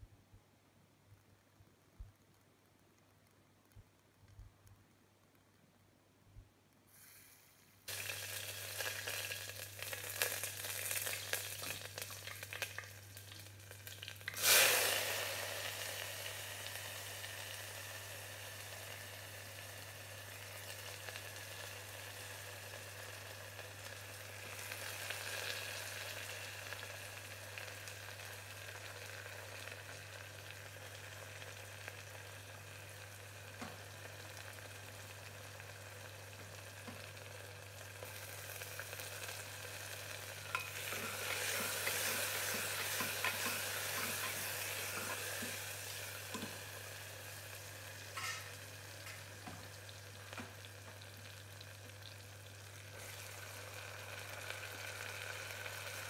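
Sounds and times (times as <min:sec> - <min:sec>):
onions sizzling in oil: 0:06.9 - 0:56.0
oil crackling and popping: 0:07.6 - 0:56.0.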